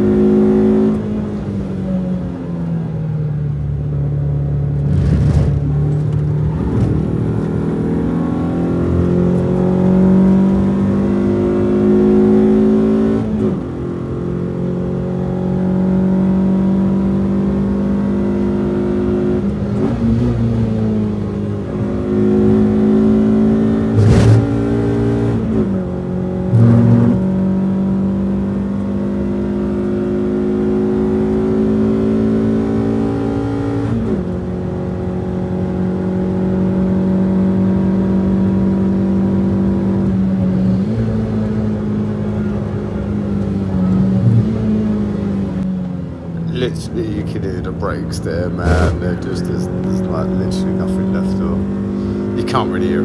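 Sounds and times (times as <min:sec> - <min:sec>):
car engine revving through gears: 0:00.0 - 0:53.0.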